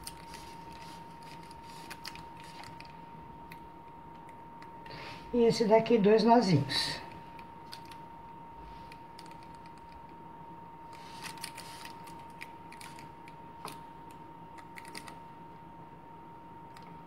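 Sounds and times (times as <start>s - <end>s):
faint steady high hum: 0.0s - 17.0s.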